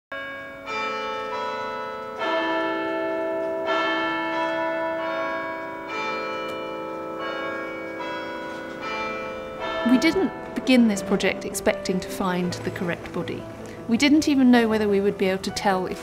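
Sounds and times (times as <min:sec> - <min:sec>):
bells ringing slowly: 0:00.1 - 0:16.0.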